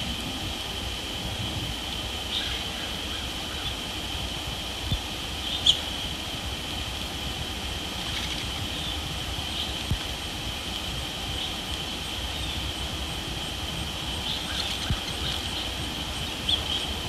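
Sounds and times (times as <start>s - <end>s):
high-pitched hum: 0.0s - 17.0s.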